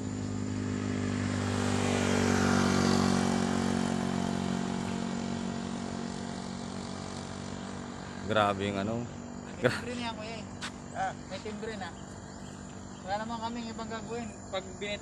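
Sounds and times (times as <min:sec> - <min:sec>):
low engine hum: 0:00.0 - 0:15.0
vehicle passing: 0:00.0 - 0:15.0.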